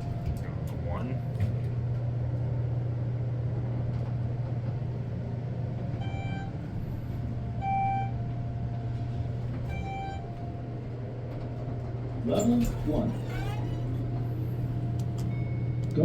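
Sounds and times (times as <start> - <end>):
elevator machinery hum: 0.0 - 16.0.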